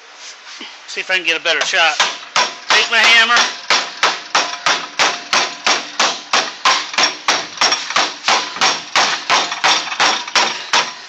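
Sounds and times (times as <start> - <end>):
hammer beating sheet metal: 1.6 - 11.0.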